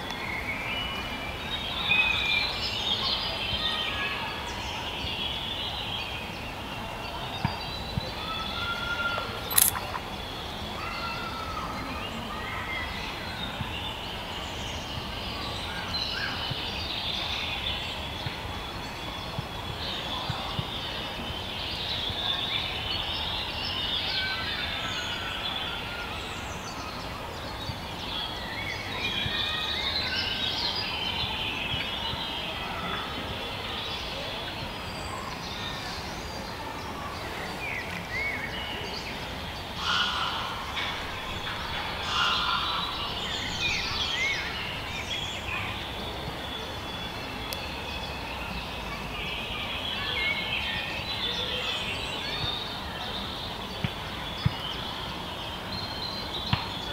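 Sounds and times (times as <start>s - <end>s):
songbirds chirping and singing: 0.1s - 56.9s.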